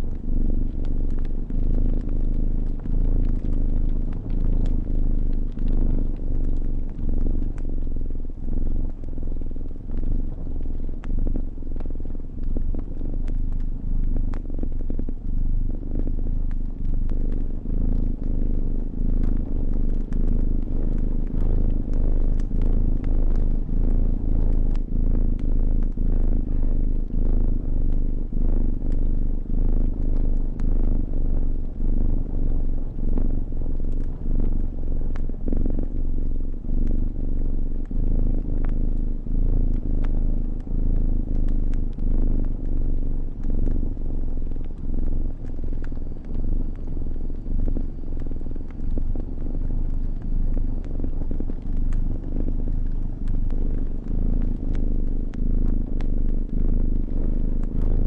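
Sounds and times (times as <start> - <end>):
cat purring: 0.0 - 58.0
wood fire crackling: 0.0 - 58.0.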